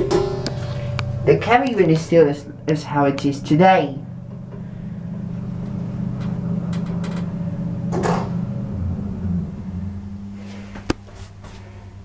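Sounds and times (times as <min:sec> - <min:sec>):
lift machinery hum: 0:00.0 - 0:12.0.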